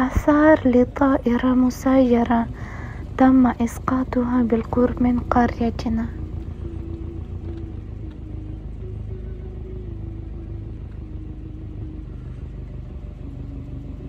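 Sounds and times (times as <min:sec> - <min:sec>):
faint droning tone: 0:00.0 - 0:14.0
vehicle engine rumble: 0:00.0 - 0:14.0.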